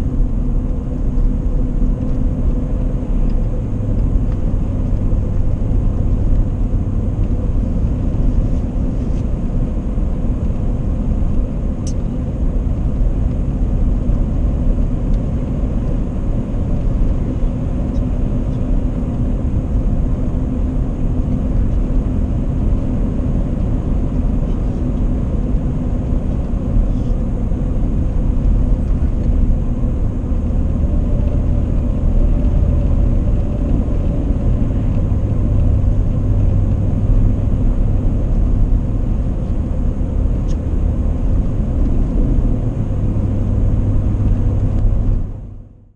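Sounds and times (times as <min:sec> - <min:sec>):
truck driving rumble: 0:00.0 - 0:45.9.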